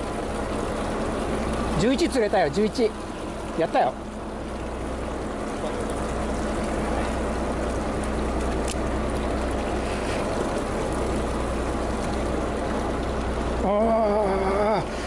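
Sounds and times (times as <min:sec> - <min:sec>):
boat engine running: 0:00.0 - 0:15.0
water wash: 0:00.0 - 0:15.0.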